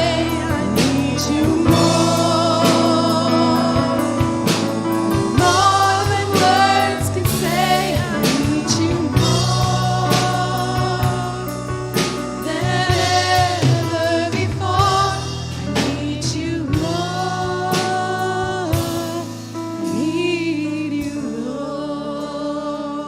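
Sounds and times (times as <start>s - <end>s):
band with drums: 0.0s - 20.2s.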